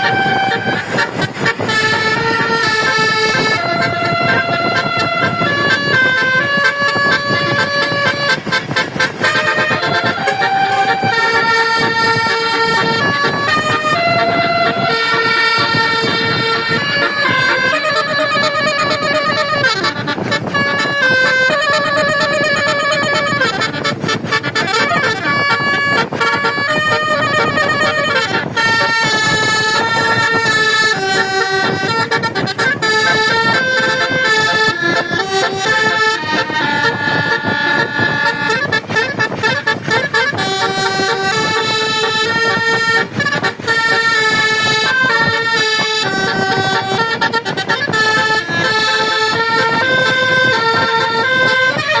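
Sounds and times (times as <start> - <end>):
bus air horn playing a tune: 0.0 - 52.0.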